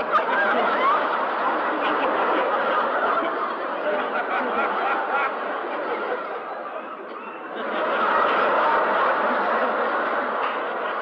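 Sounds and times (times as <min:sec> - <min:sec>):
laugh track: 0:00.0 - 0:11.0.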